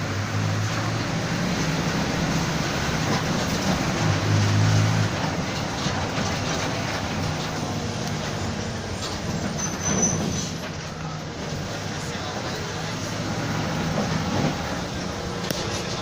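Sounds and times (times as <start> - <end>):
bus diesel engine running: 0.0 - 16.0
road and body noise: 0.0 - 16.0.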